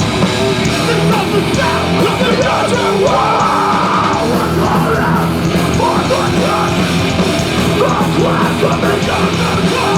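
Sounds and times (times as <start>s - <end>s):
punk band playing live: 0.0s - 9.9s.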